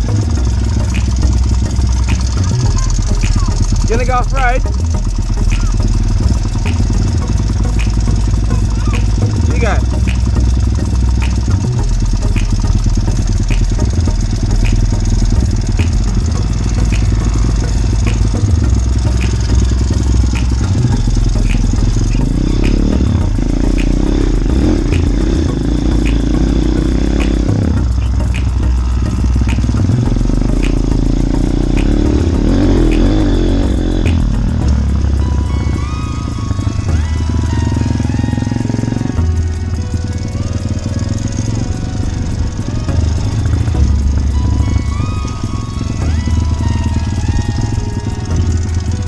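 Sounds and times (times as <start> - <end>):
light ticking: 0.0 - 49.0
motorbike engine revving: 0.0 - 49.0.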